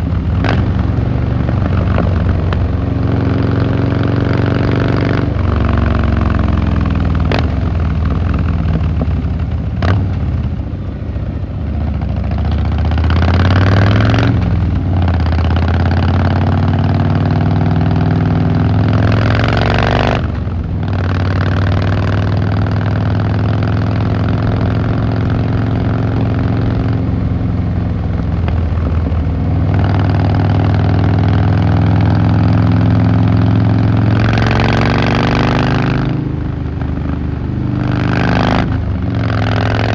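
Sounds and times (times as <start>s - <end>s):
motorcycle engine revving: 0.0s - 10.7s, 11.6s - 39.9s.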